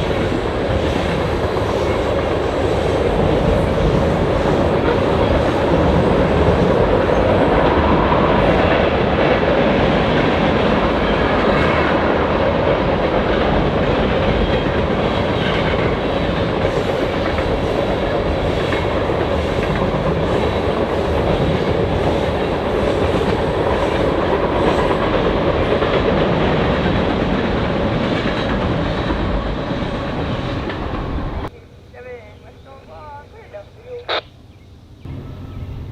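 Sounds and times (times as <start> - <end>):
train rumbling past: 0.0 - 35.9.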